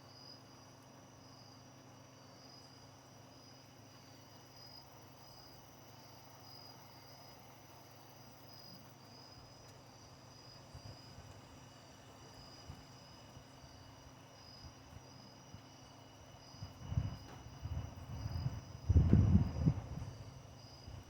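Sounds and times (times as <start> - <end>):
crickets chirping: 0.0 - 21.0
high insect trill: 0.1 - 21.0.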